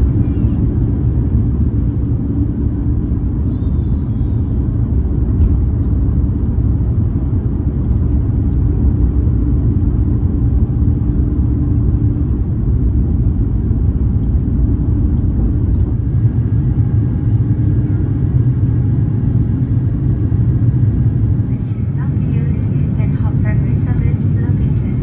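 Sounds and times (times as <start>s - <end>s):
airliner cabin engine rumble: 0.0s - 25.0s
faint hum: 0.0s - 25.0s.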